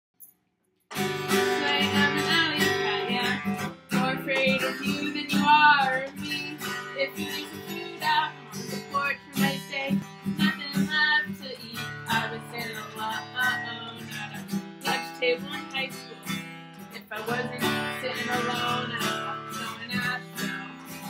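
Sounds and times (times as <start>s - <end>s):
acoustic guitar strummed: 0.9s - 21.0s.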